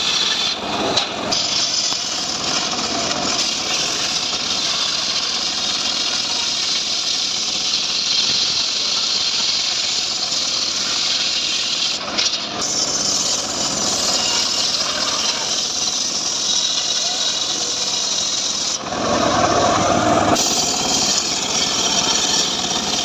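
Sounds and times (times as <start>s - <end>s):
saw hissing through log: 0.0s - 23.0s
sawmill engine running: 0.0s - 23.0s.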